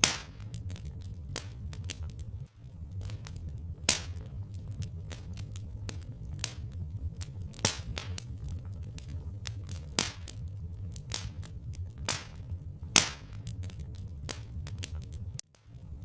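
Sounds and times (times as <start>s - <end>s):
loud pops of fire: 0.0s - 16.0s
steady low rumble: 0.0s - 16.0s
wood fire crackling: 0.0s - 16.0s.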